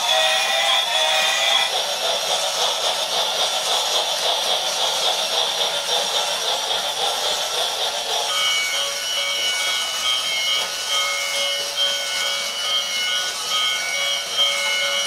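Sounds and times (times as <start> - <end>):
toy train whirring rattle: 0.0 - 15.0.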